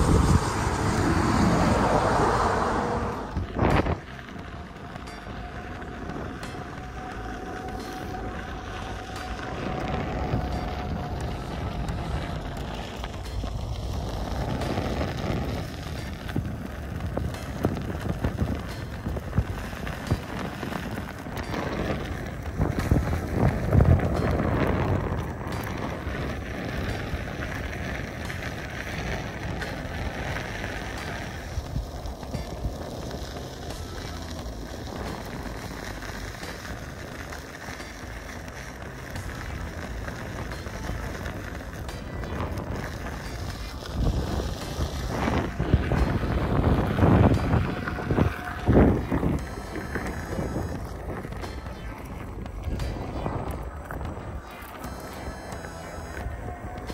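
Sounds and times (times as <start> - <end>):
tyre crackling on loose gravel: 0.0 - 56.9
wind rumble on microphone: 0.0 - 56.9.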